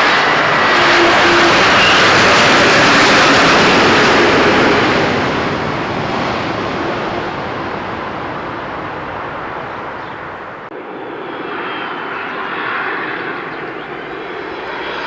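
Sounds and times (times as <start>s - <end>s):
airliner engine noise passing: 0.0s - 15.0s.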